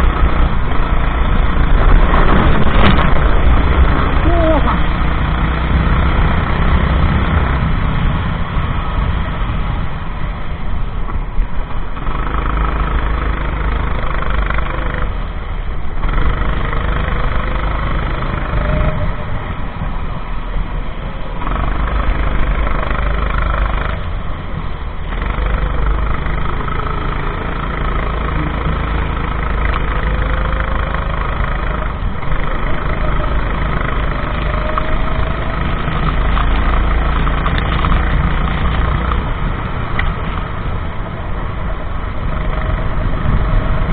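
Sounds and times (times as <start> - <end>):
racing kart engine: 0.0 - 43.9.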